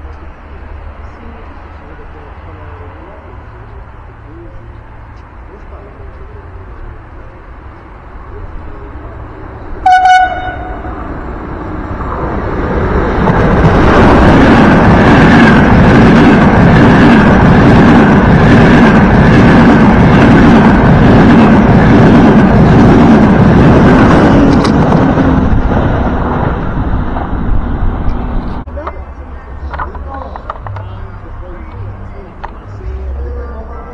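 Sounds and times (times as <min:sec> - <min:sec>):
high-speed train passing: 0:00.0 - 0:33.9.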